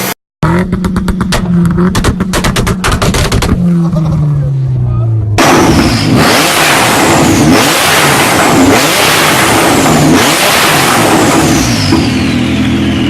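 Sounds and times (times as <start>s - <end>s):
car engine revving through loud exhaust: 0.0s - 13.0s.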